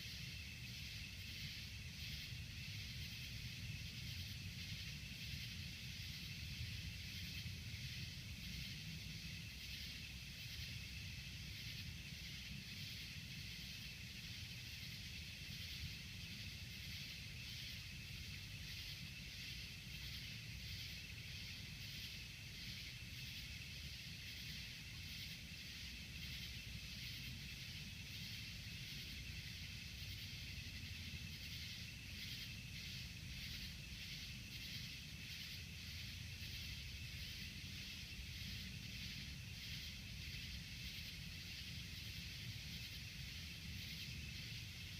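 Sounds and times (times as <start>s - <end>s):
night insects chirping: 0.0s - 44.9s.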